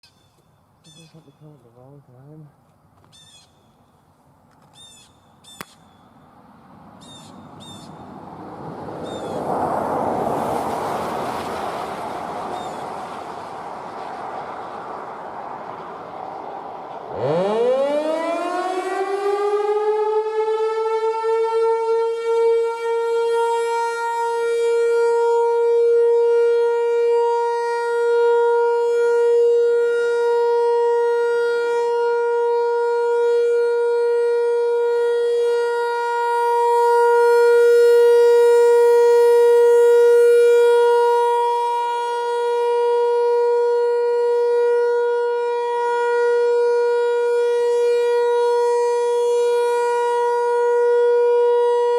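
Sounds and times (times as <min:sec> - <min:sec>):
tornado siren steady tone: 0:03.3 - 0:51.9.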